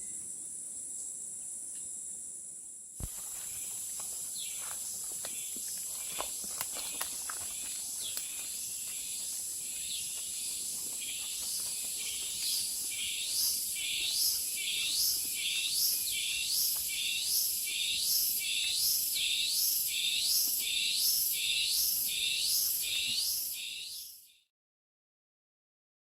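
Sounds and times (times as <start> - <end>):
insects high-pitched hum: 0.0 - 24.4
repeated rising insect call: 0.0 - 24.4.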